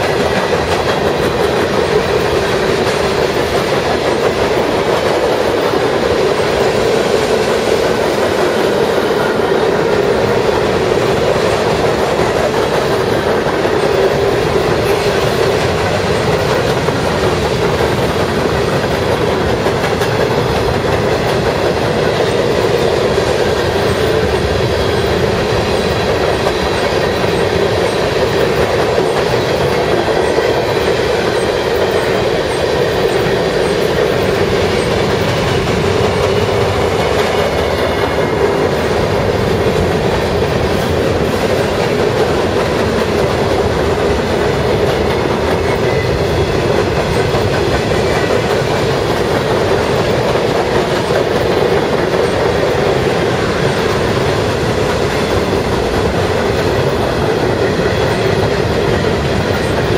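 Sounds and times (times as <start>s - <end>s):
freight train wheels rolling on rail: 0.0s - 59.9s.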